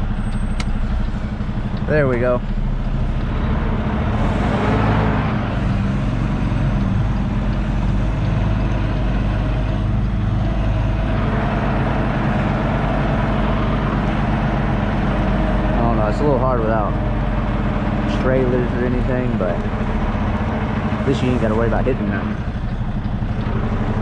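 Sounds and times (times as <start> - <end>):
diesel truck engine running low: 0.0 - 24.0.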